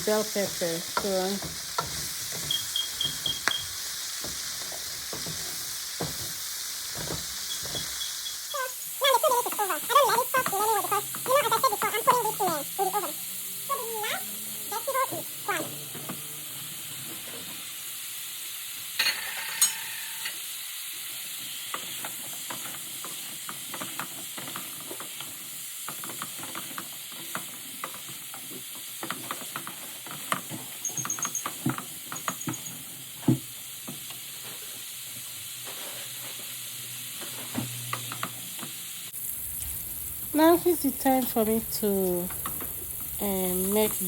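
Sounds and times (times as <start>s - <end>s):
vegetables sizzling in oil: 0.0s - 44.0s.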